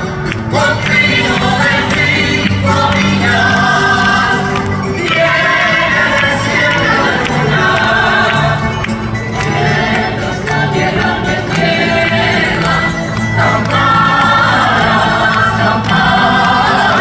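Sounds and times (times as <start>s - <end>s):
plucked guitars and lutes: 0.0s - 17.0s
men singing together: 0.4s - 17.0s.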